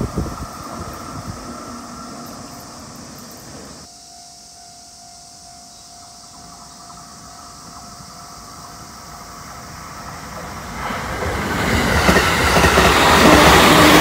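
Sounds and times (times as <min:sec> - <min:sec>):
electric train approaching on rails: 0:00.0 - 0:14.0.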